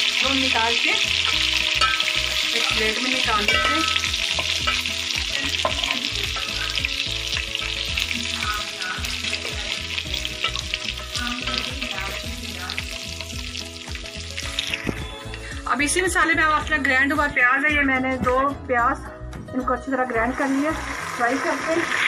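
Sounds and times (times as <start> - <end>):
chicken sizzling in hot oil: 0.0 - 16.2, 20.2 - 22.0.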